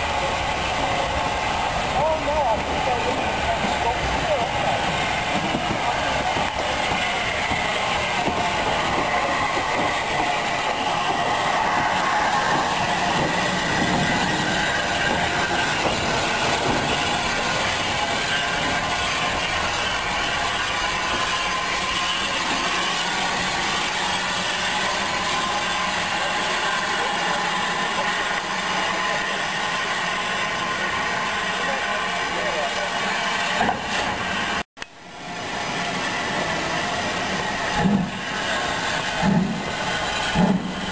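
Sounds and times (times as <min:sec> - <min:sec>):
wheel and rail noise: 0:00.0 - 0:40.9.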